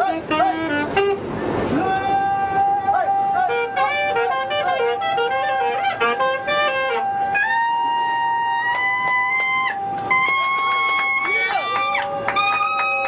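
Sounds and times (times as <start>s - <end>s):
saxophone melody: 0.0s - 13.0s.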